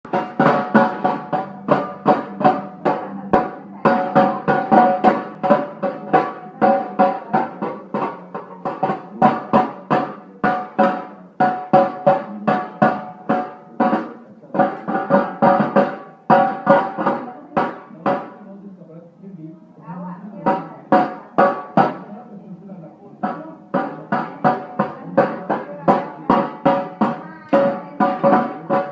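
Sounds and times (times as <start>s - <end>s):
baby banging on ringing objects: 0.1s - 18.4s, 23.2s - 28.9s.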